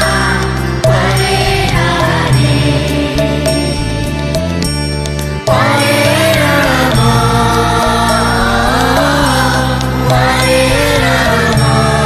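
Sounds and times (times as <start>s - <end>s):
sung chant: 0.0s - 4.1s, 5.5s - 12.0s
sustained instrumental notes: 0.0s - 12.0s.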